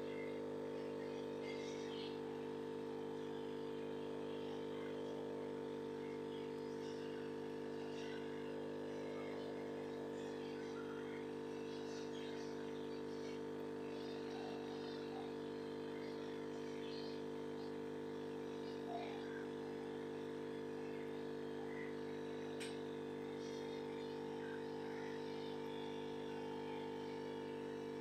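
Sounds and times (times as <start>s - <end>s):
aquarium equipment hum: 0.0s - 28.0s.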